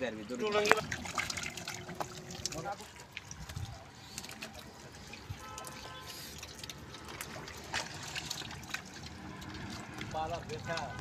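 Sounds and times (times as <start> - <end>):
water splashes: 0.0 - 11.0
mud squelching: 0.1 - 11.0
water dripping: 0.3 - 11.0.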